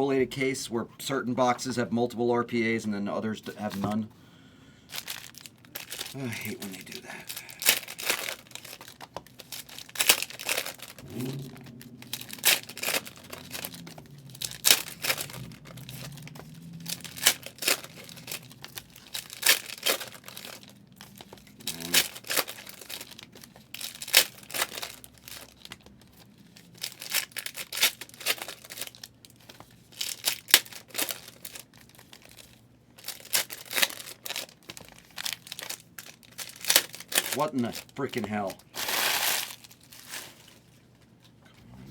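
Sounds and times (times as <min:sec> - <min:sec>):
wrappers crinkling and tearing: 0:03.4 - 0:04.0, 0:04.9 - 0:40.8.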